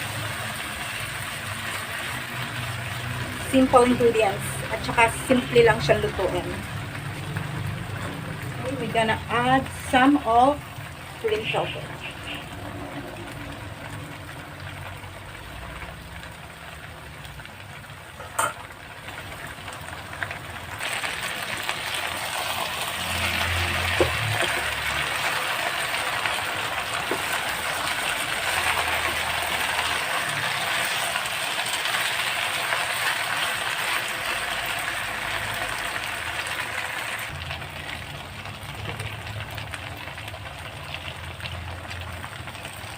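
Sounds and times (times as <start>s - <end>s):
pepper sizzling in a hot pan: 0.0s - 42.9s.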